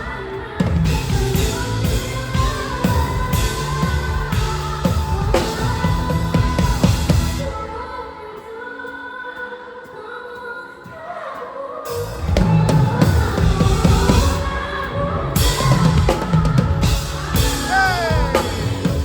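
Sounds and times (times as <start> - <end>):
pop band playing live: 0.0 - 19.0.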